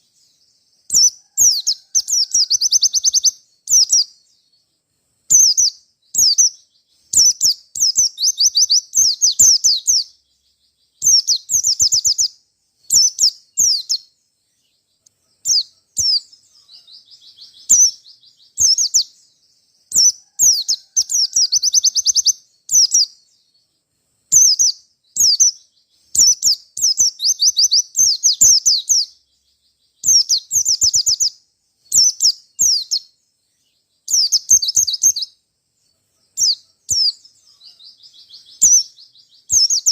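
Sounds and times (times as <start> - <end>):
soft bird twittering: 0.0 - 39.9
bird singing chattering phrases: 0.9 - 4.5, 5.3 - 23.4, 24.3 - 33.1, 34.0 - 35.3, 36.1 - 39.9.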